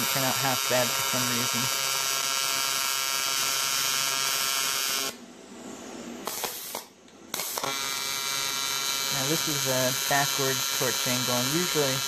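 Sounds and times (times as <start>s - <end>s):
welding arc buzzing: 0.0s - 5.2s, 6.2s - 12.0s.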